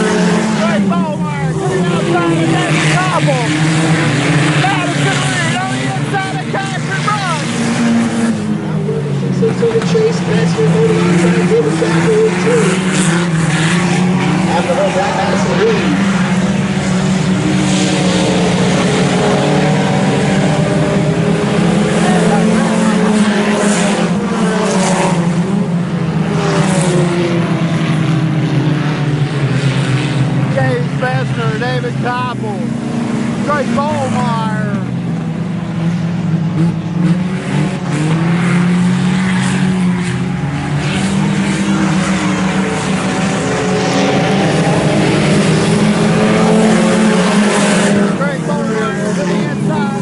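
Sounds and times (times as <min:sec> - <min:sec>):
race car engines droning: 0:00.0 - 0:50.0.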